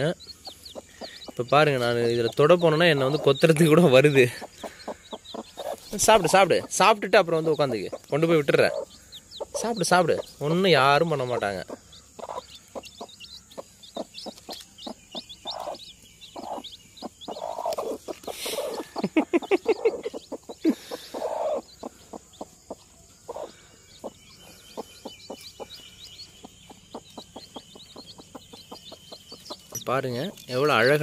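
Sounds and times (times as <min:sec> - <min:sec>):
chicks peeping: 0:00.0 - 0:31.0
hen clucking: 0:00.0 - 0:31.0.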